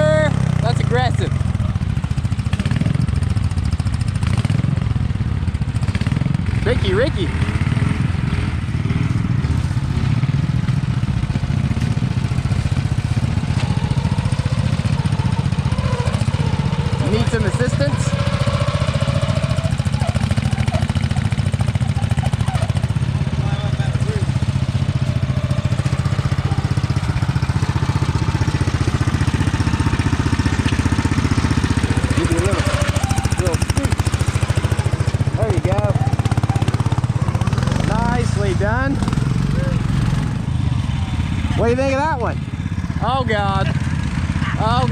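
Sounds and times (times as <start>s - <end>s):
tractor engine droning under load: 0.0s - 44.9s.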